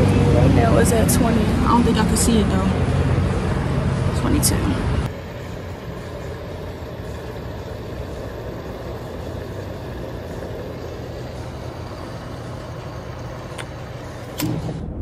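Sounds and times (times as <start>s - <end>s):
fuel pumping: 0.0s - 14.8s
vehicle engine idling: 0.0s - 15.0s.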